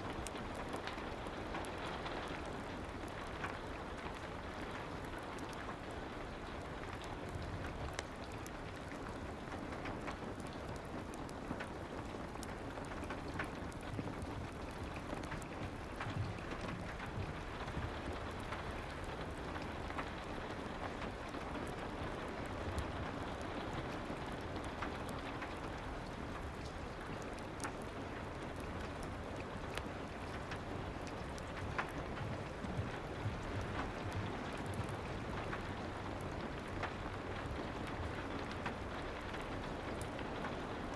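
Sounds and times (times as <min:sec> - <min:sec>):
soft rain hiss: 0:00.0 - 0:40.9
raindrop clicks: 0:00.1 - 0:40.8.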